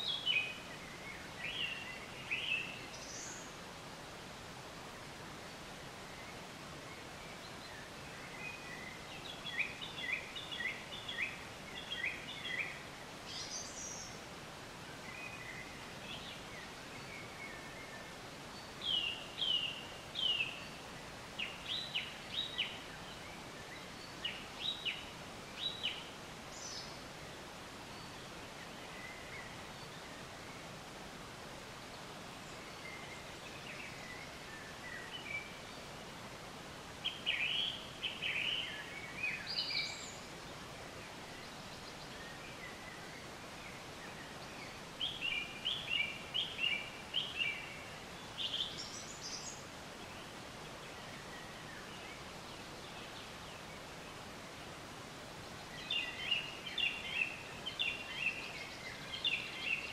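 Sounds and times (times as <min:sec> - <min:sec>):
background hiss: 0:00.0 - 0:59.9
birds chirping: 0:00.0 - 0:59.9.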